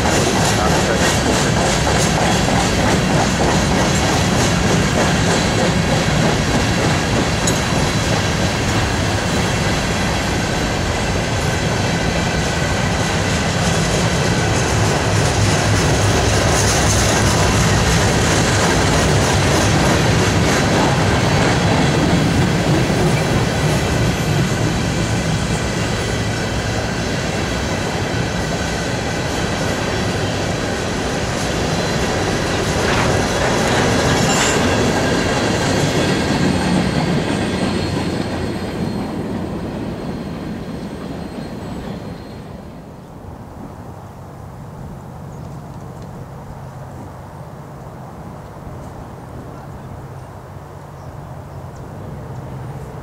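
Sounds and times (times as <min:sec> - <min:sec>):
train cars rumbling past: 0:00.0 - 0:53.0.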